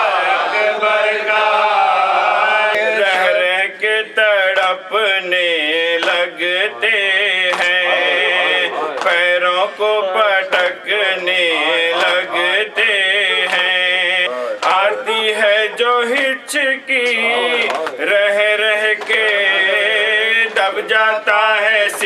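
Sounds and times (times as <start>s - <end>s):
man chanting into a microphone: 2.4s - 22.0s.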